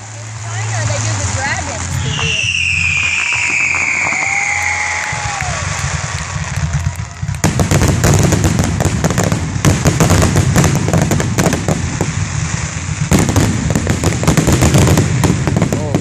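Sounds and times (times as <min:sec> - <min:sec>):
deep rumble: 0:00.0 - 0:16.0
fireworks cracks and bangs: 0:00.0 - 0:16.0.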